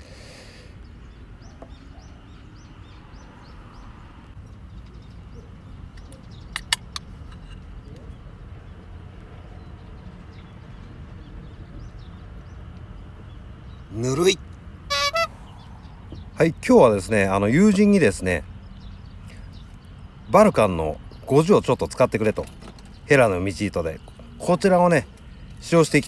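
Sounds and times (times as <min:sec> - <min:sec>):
outdoor background noise: 0:00.0 - 0:26.0
bird chirping: 0:00.8 - 0:26.0.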